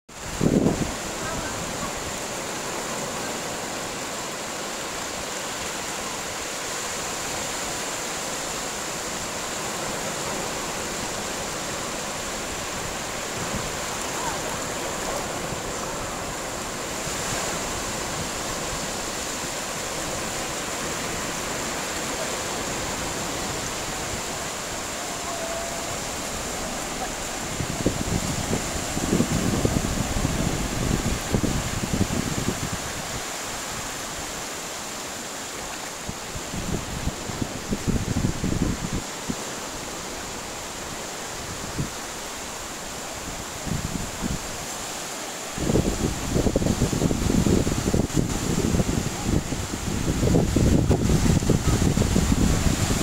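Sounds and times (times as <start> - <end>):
sea waves washing in: 0.1 - 53.0.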